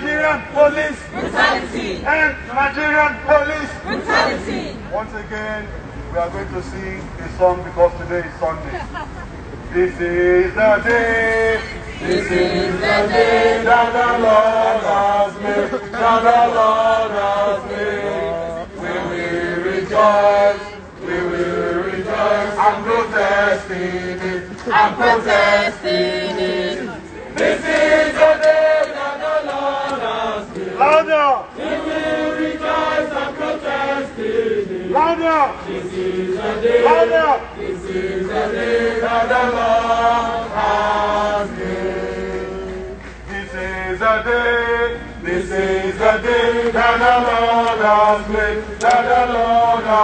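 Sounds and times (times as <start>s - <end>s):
crowd chanting in unison: 0.0s - 2.1s, 3.3s - 5.0s, 10.0s - 50.0s.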